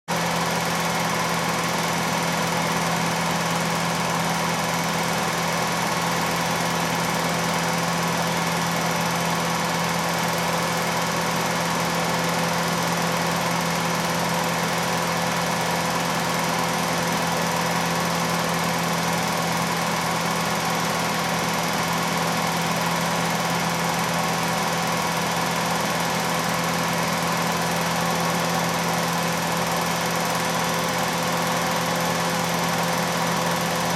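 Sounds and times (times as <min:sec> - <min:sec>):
film projector whirring: 0:00.2 - 0:33.9.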